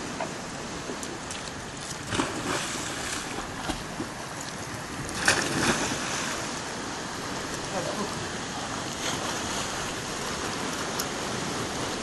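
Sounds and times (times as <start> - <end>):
sea surf washing over rocks: 0.0 - 12.0.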